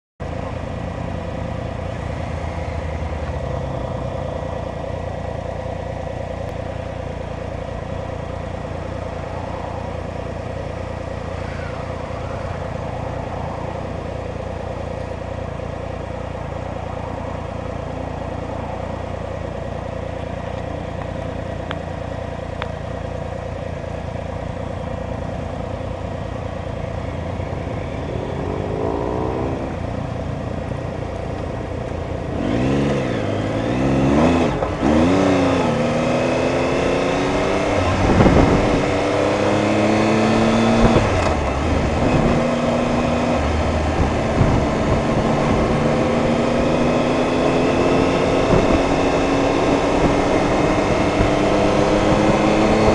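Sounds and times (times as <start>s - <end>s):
vehicle engine idling: 0.2s - 40.1s, 40.7s - 52.1s
motorcycles approaching: 0.2s - 52.9s.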